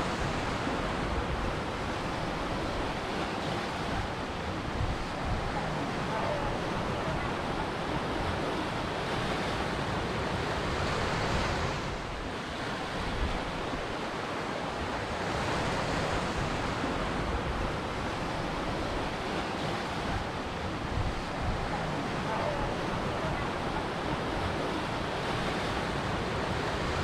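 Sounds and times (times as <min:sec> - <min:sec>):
ocean waves on beach: 0:00.0 - 0:27.0.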